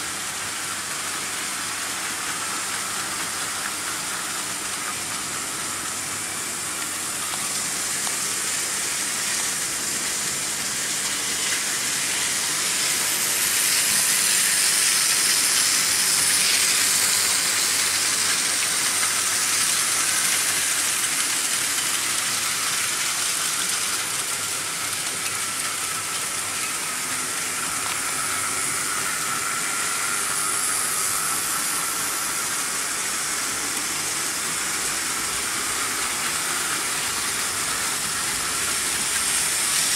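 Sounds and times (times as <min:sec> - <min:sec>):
faint motor whine: 0:00.0 - 0:39.9
model train wheels on metal rails: 0:00.0 - 0:39.9.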